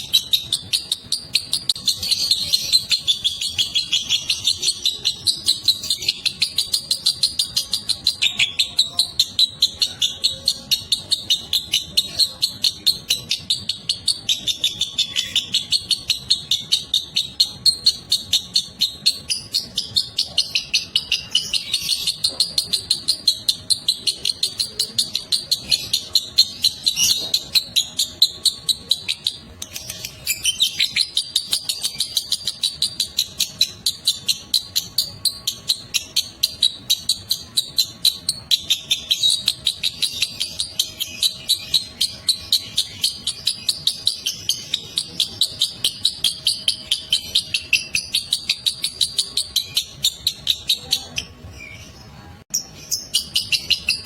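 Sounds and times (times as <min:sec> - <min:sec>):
lovebird chattering: 0:00.0 - 0:54.0.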